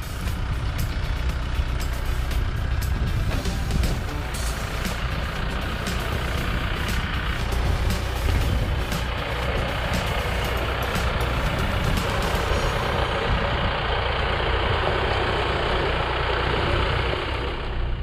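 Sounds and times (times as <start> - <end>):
tyre and road noise: 0.0 - 18.0
vehicle engine running: 0.0 - 18.0.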